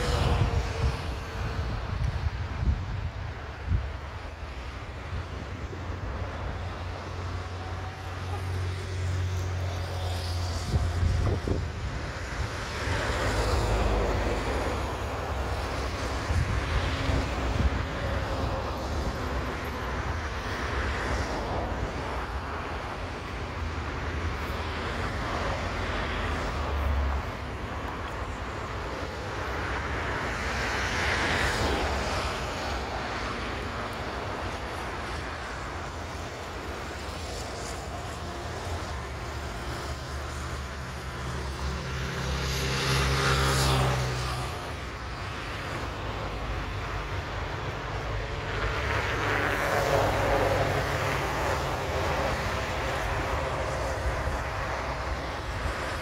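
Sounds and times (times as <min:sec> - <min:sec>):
distant jet engine rumble: 0:00.0 - 0:56.0
road traffic: 0:00.0 - 0:56.0
wind on microphone: 0:00.0 - 0:56.0.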